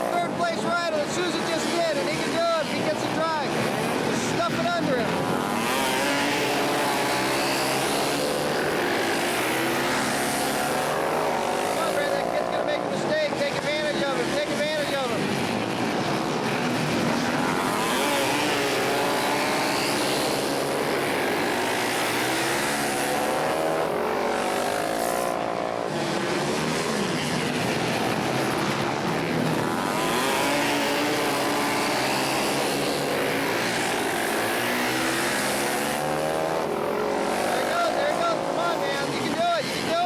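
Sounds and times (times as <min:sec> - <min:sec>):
racing motorcycle engines: 0:00.0 - 0:40.0.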